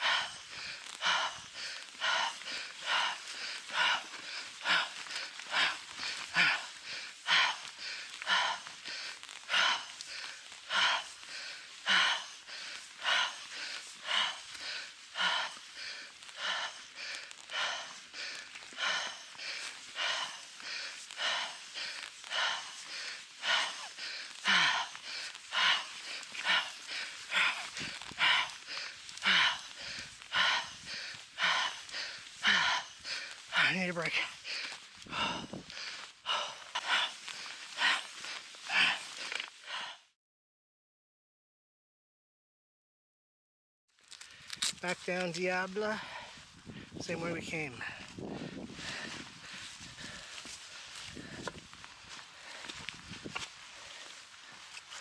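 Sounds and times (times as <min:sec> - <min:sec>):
person panting: 0:00.0 - 0:40.2, 0:44.2 - 0:55.0.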